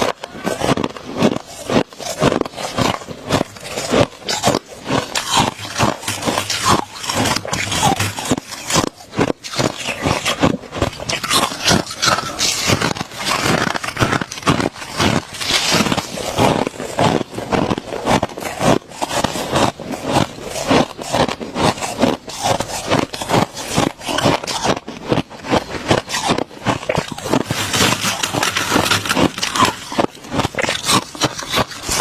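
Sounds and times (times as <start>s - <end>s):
person chewing frost crunches: 0.0s - 32.0s.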